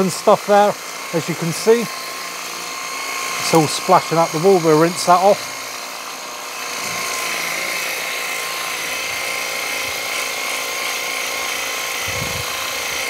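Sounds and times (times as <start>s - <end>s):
pressure washer pump whining: 0.0s - 13.0s
water jet spraying on stone: 0.0s - 13.0s.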